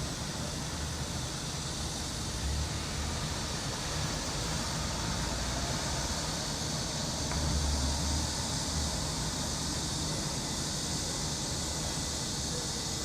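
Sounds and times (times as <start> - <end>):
cicadas chorus: 0.0 - 13.0
low city traffic rumble: 0.0 - 13.0.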